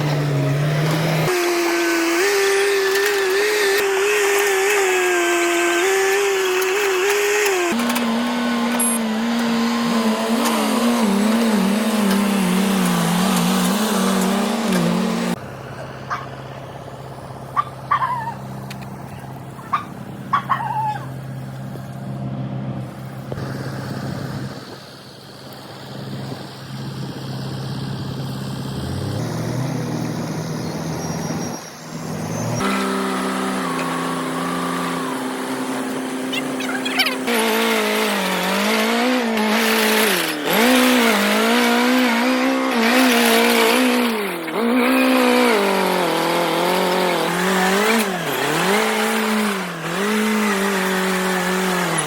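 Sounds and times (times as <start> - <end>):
heavy machinery engines running: 0.0 - 52.0.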